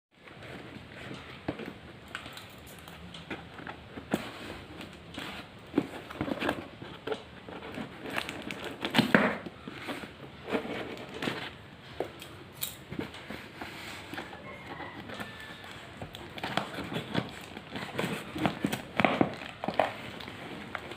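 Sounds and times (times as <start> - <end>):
packaging rustling and crinkling: 0.2 - 20.9
packaging crackling: 2.1 - 13.3, 14.3 - 20.9.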